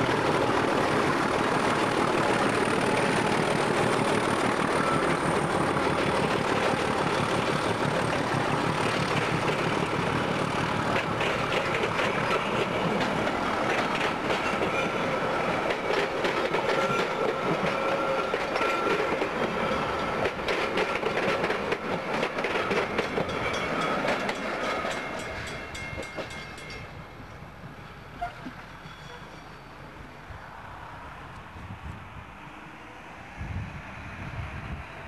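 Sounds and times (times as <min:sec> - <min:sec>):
train wheels clicking over rail joints: 0:00.0 - 0:30.1.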